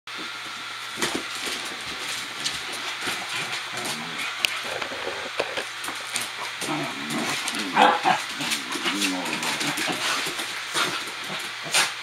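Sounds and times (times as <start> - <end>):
dogs growling: 1.0 - 12.0.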